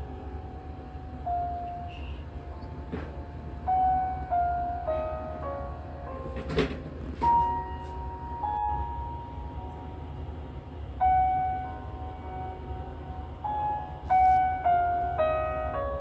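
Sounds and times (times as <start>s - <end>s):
slow music of held notes: 0.0s - 10.3s, 10.9s - 16.0s
steady low hum: 0.0s - 16.0s.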